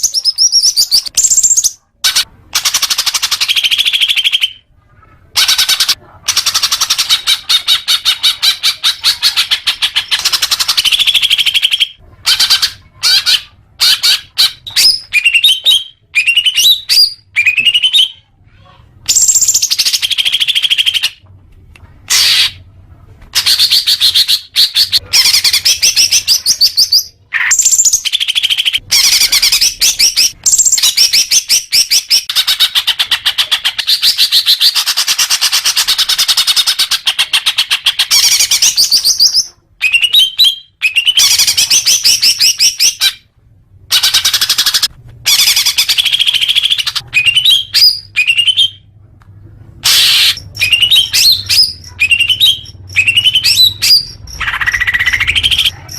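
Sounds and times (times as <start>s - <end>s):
bird chirping and warbling: 0.0s - 21.2s, 23.4s - 43.3s, 43.9s - 48.9s, 49.8s - 55.9s.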